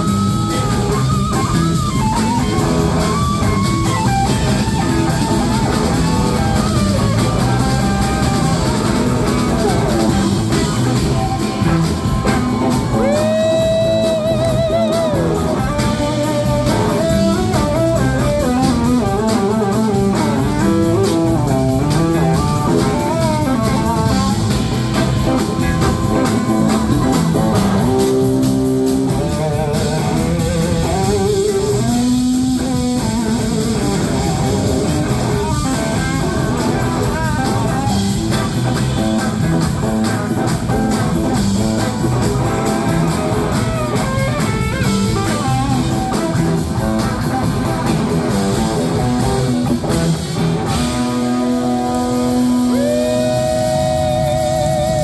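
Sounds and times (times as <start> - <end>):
electric guitar lead lines: 0.0 - 55.0
live blues band playing: 0.0 - 55.0.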